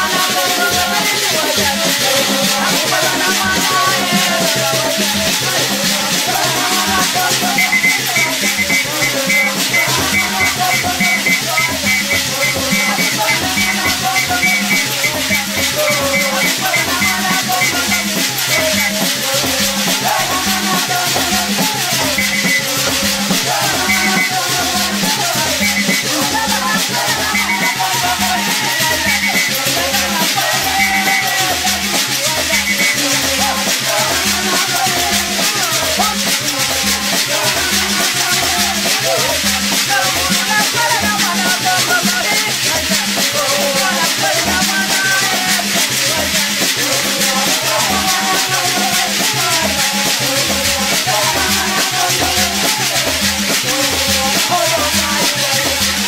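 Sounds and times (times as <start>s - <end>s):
metal can rattles shaking: 0.0s - 56.0s
women singing together: 0.0s - 56.0s.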